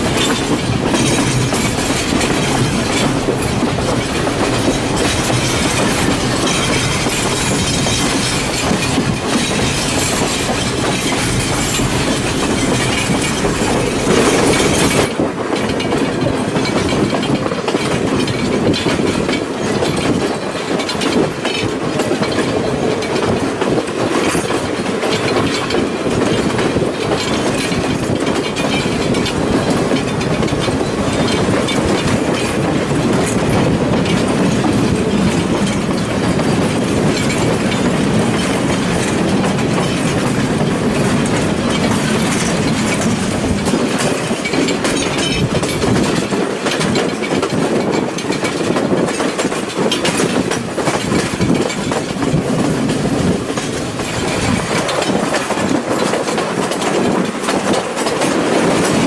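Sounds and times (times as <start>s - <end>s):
train carriage rumble: 0.0s - 59.0s
wheels clacking over rail joints: 0.0s - 59.0s.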